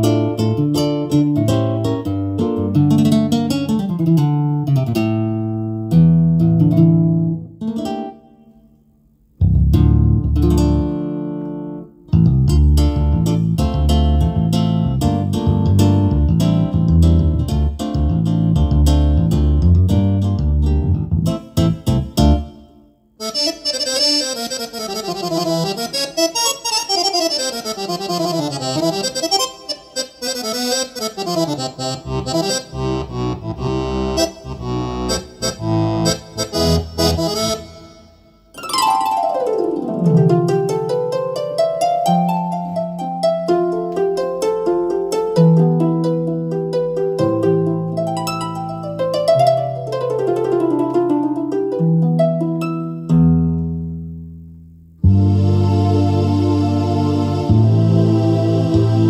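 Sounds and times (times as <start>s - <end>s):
keyboard accordion melody: 0.0s - 3.4s, 9.9s - 43.1s, 43.7s - 51.4s, 55.0s - 59.0s
plucked guitar notes and chords: 0.0s - 8.8s, 9.4s - 24.0s, 24.8s - 59.0s.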